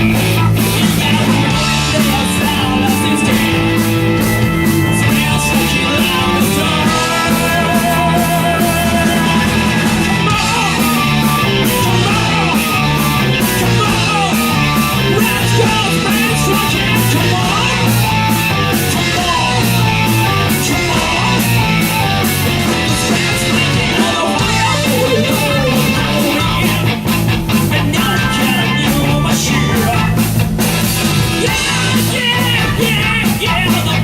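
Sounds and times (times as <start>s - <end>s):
bass guitar: 0.0s - 34.0s
distorted electric guitar: 0.0s - 34.0s
drum kit: 0.0s - 34.0s.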